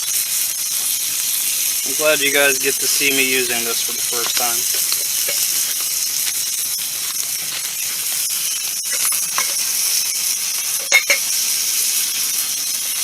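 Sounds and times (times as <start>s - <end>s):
burger patty sizzling in pan: 0.0s - 13.0s.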